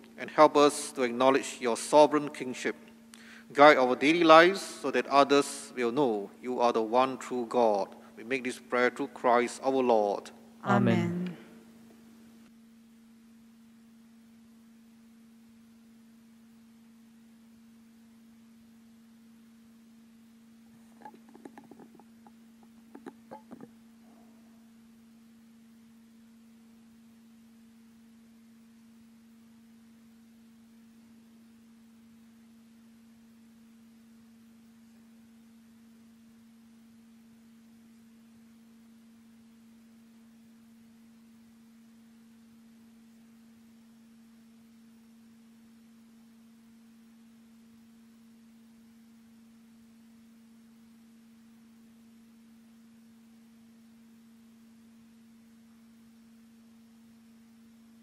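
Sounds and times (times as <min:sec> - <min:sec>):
faint high whine: 0:00.0 - 0:58.0
faint low hum: 0:00.0 - 0:58.0.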